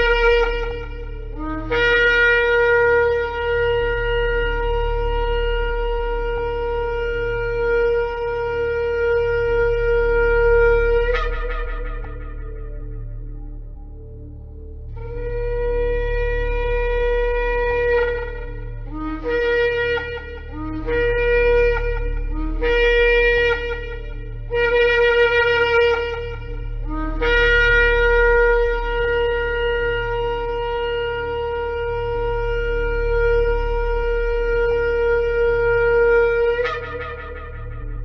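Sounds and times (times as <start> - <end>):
low steady drone: 0.0 - 38.0.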